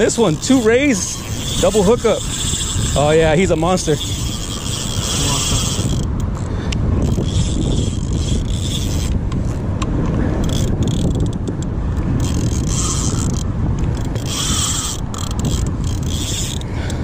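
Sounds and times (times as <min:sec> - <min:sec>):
fishing reel gears whirring: 0:00.0 - 0:09.6, 0:10.4 - 0:17.0.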